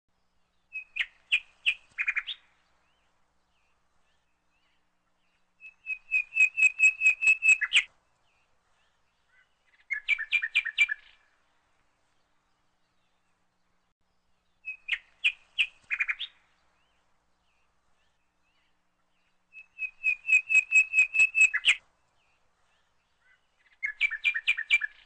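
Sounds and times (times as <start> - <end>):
songbird chirping and trilling: 0.1 - 25.0.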